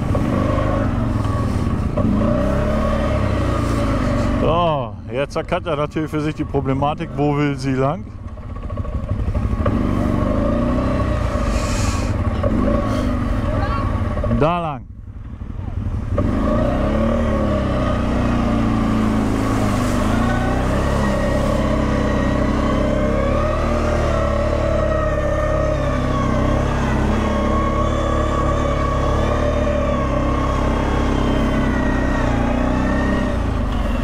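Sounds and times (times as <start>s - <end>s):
off-road vehicle engine running: 0.0s - 34.0s.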